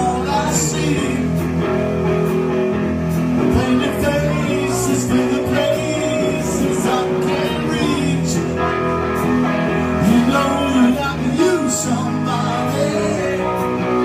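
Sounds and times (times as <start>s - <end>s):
person singing: 0.0s - 1.5s, 3.4s - 14.0s
bass guitar: 0.0s - 14.0s
drums: 0.0s - 14.0s
electric guitar: 0.0s - 14.0s.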